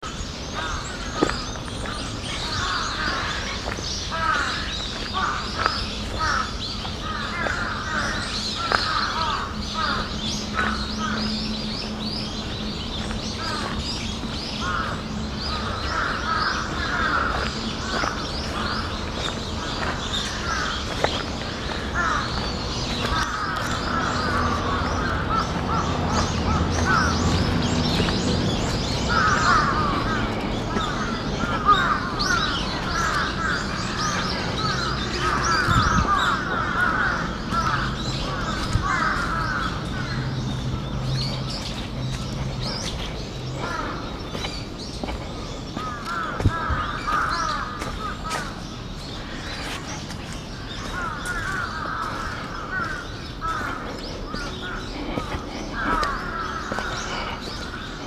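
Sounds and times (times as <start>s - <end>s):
crows cawing: 0.0s - 58.0s.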